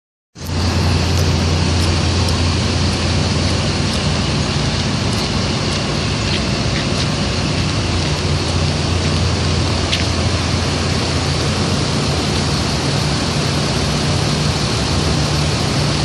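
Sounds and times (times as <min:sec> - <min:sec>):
road noise: 0:00.4 - 0:16.0
vehicle engine humming: 0:00.4 - 0:16.0.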